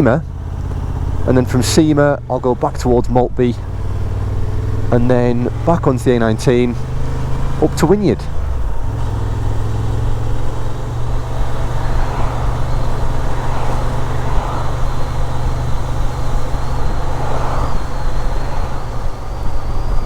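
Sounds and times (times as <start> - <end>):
motorcycle engine running: 0.0 - 20.0
road and wind rush: 0.0 - 20.0.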